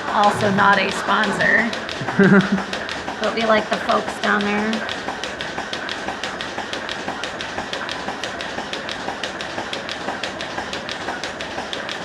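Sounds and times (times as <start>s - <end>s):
milking pulsators clicking: 0.0s - 12.0s.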